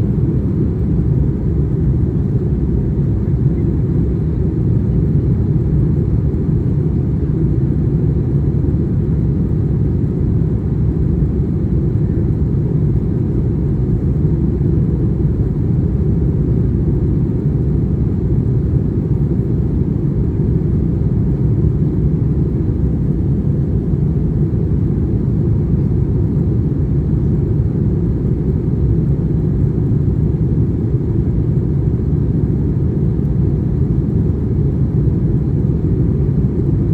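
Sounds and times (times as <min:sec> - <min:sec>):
airplane cabin rumble: 0:00.0 - 0:36.9.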